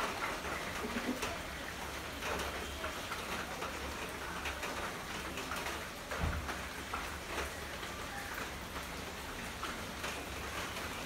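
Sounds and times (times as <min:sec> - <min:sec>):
light rain on puddles and foliage: 0:00.0 - 0:11.0.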